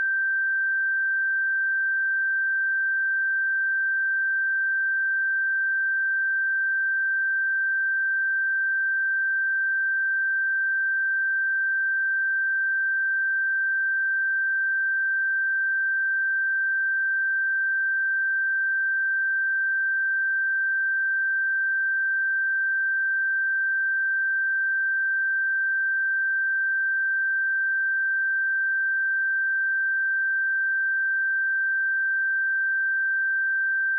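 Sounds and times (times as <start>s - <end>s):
sine wave test tone: 0.0s - 33.9s.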